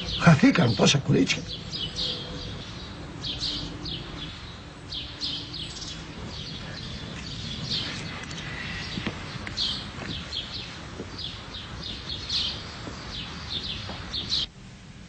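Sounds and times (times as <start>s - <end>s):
small birds chirping: 0.0s - 14.5s
low background noise: 0.0s - 15.0s.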